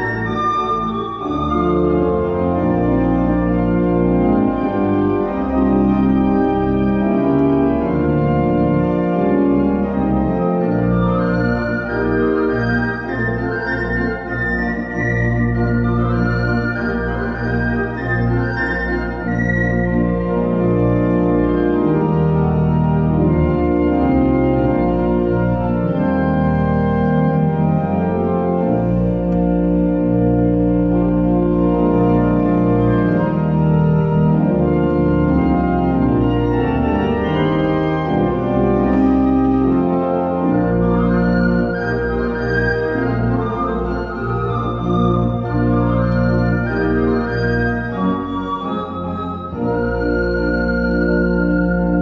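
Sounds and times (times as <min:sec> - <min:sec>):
church pipe organ chords: 0:00.0 - 0:52.0.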